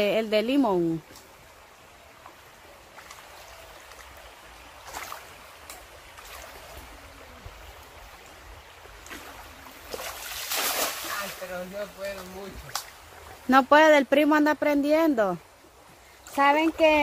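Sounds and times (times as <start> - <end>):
river running over stones: 0.0 - 17.0.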